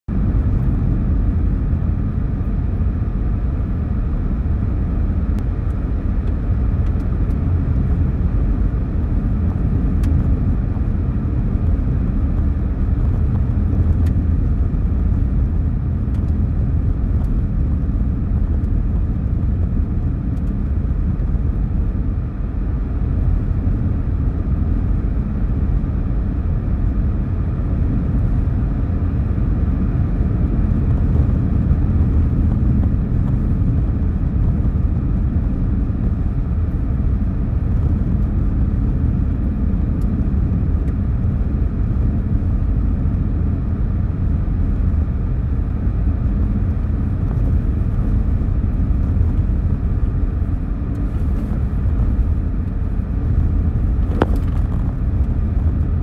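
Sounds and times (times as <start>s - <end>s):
tires rolling on snow: 0.1s - 56.0s.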